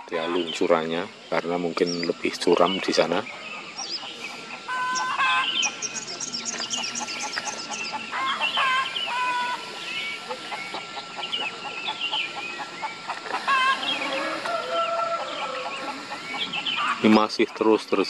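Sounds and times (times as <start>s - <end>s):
birds clucking and chirping: 0.0s - 18.0s.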